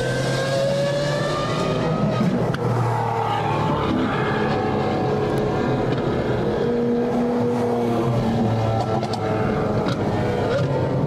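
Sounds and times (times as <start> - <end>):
several car engines droning: 0.0 - 11.0.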